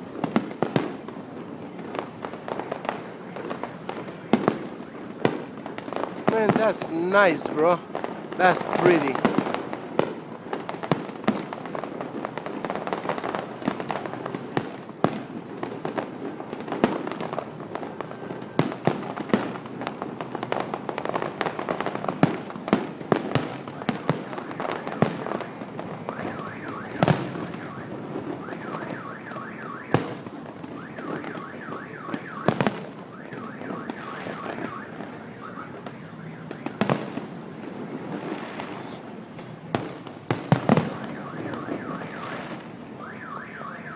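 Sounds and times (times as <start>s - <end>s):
crackling rumble: 0.0s - 43.9s
fireworks bursting with bangs: 0.0s - 43.9s.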